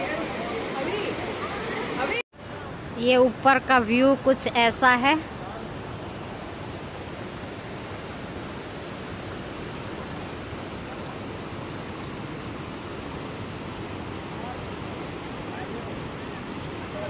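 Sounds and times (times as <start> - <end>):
waterfall rushing over rocks: 0.0 - 3.0, 4.4 - 17.0.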